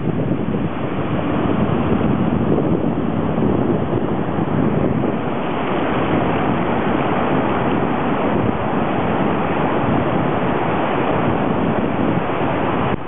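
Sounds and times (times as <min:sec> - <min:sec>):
ocean surf breaking on beach: 0:00.0 - 0:13.0
wind rumbling on microphone: 0:00.0 - 0:13.0.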